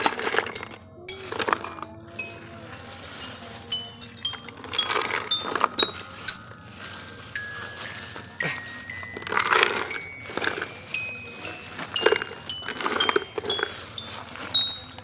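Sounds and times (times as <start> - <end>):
gravel pebbles clattering: 0.0 - 15.0
rising ringing tone: 0.0 - 15.0.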